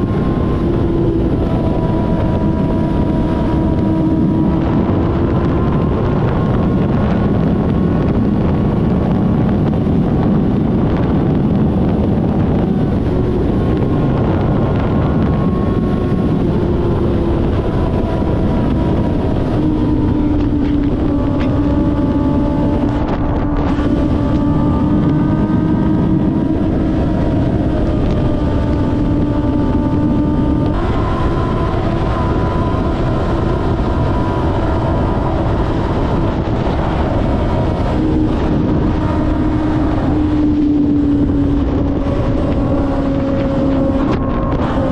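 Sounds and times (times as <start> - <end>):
motorcycle engine cruising: 0.0 - 44.9
wind buffeting microphone: 0.0 - 44.9.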